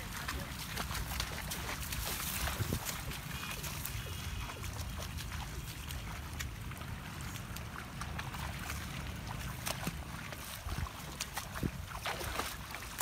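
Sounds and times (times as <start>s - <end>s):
small splats and drips: 0.0s - 13.0s
splashing in muddy water: 0.0s - 13.0s.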